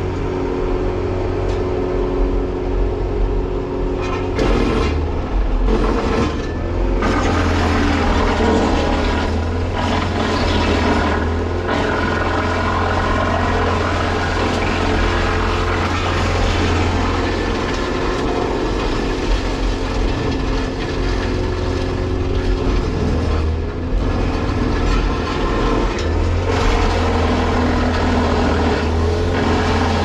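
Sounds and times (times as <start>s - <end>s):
excavator running: 0.0s - 30.0s
low machine hum: 0.0s - 30.0s
wood chipper running: 0.0s - 30.0s.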